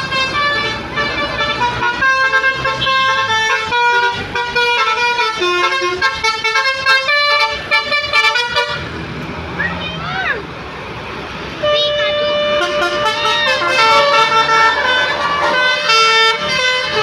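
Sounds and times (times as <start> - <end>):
multi-tone bus horn tune: 0.0 - 9.0, 11.6 - 17.0.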